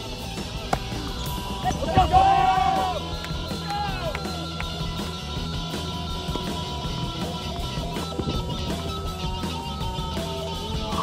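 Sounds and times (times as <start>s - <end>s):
rock music with electric guitar: 0.0s - 11.0s.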